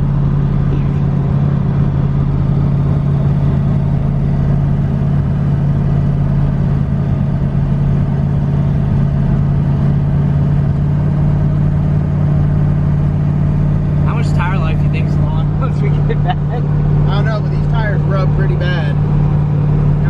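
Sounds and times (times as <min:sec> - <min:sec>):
car exhaust drone: 0:00.0 - 0:20.0.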